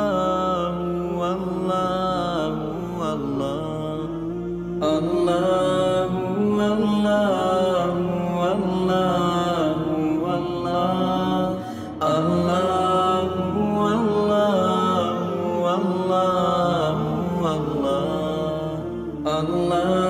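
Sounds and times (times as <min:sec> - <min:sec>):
chant-like singing: 0:00.0 - 0:20.0.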